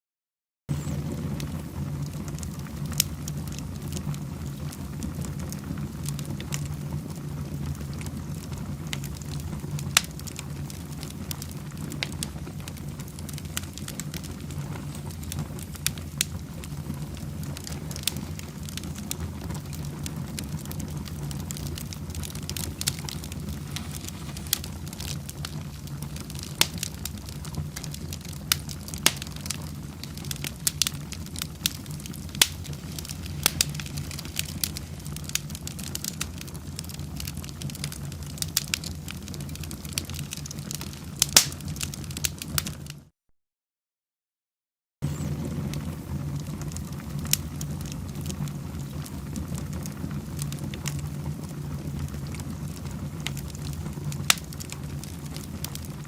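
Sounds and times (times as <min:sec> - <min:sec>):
low fire rumble: 0:00.7 - 0:43.1, 0:45.0 - 0:56.0
wood fire crackling and popping: 0:00.7 - 0:43.1, 0:45.0 - 0:56.0.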